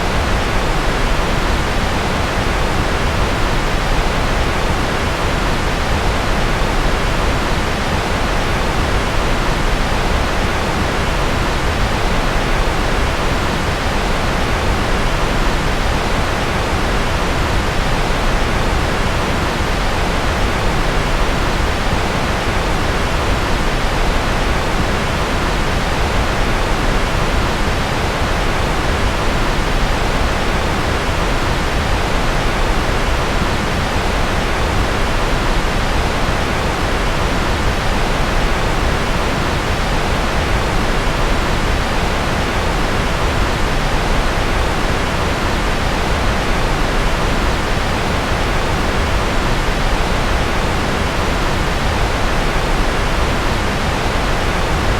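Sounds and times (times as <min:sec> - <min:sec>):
white noise: 0:00.0 - 0:54.9.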